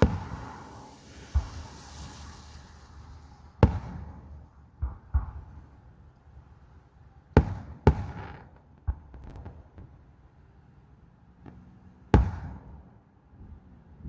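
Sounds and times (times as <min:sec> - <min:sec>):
fireworks bursting with booms: 0:00.0 - 0:06.6, 0:07.3 - 0:10.2, 0:11.4 - 0:13.6.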